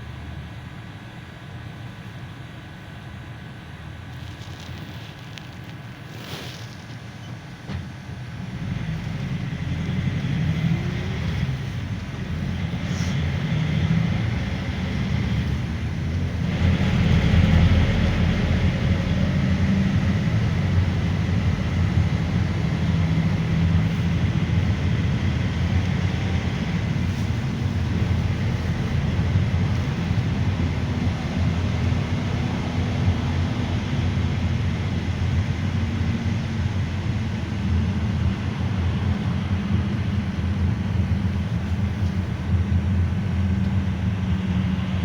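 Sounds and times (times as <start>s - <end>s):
low engine rumble: 0.0s - 45.0s
road and tyre noise: 0.0s - 45.0s.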